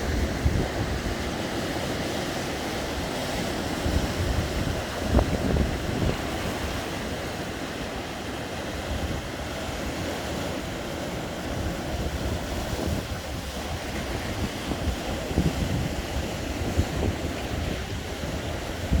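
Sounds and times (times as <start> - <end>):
wind buffeting microphone: 0.0 - 7.7, 11.2 - 19.0
sea waves breaking on shore: 0.0 - 19.0.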